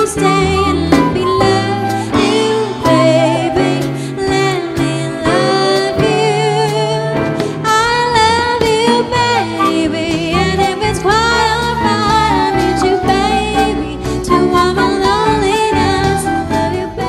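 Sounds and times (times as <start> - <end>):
band accompaniment with bass: 0.0 - 17.0
woman singing with vibrato: 0.0 - 17.0.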